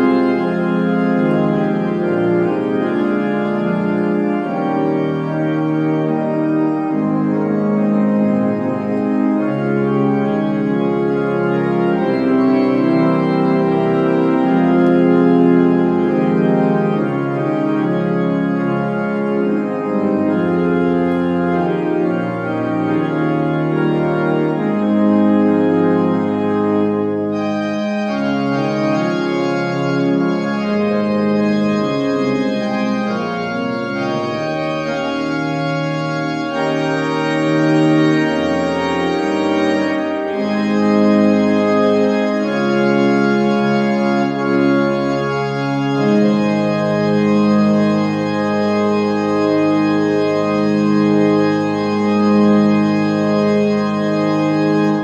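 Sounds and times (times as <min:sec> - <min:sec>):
organ playing a hymn: 0:00.0 - 0:55.0.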